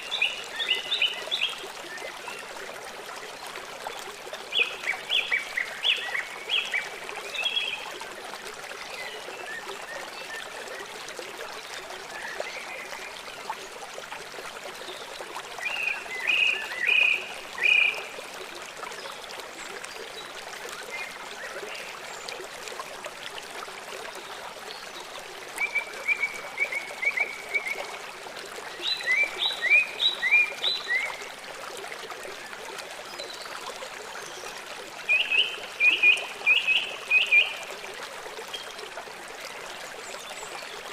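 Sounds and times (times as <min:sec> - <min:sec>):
stream running water: 0:00.0 - 0:40.9.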